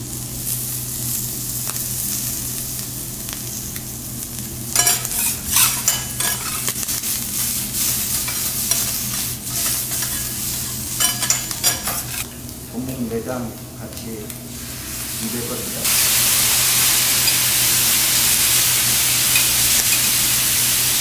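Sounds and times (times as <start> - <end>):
food sizzling on a griddle: 0.0 - 12.7, 13.9 - 21.0.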